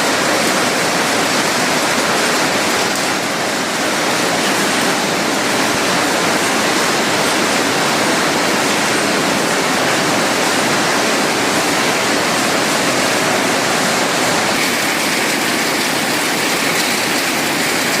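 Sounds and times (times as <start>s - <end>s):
nut shelling machine running: 0.0s - 18.0s.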